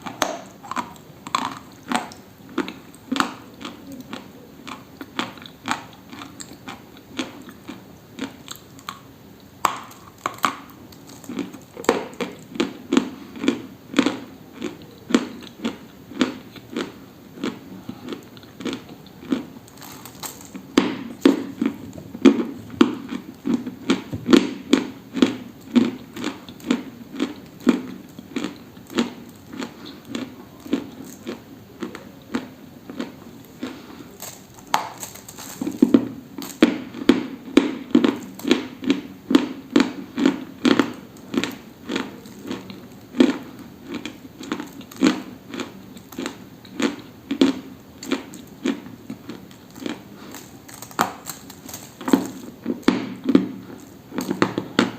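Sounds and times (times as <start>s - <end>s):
dry food crunching: 0.0s - 54.9s.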